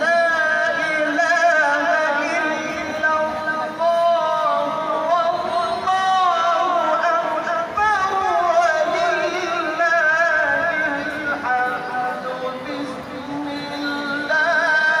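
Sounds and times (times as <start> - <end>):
man singing slow melody: 0.0 - 15.0.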